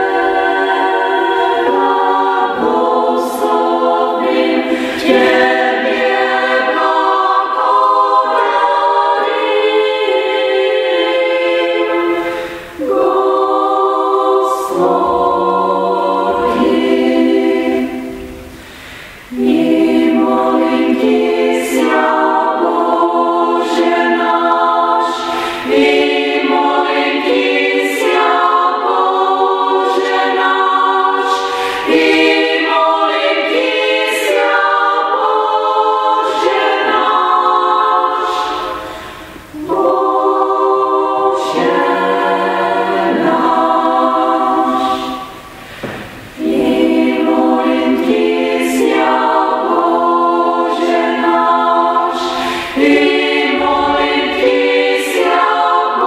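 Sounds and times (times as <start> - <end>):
women's choir singing a cappella: 0.0 - 56.0.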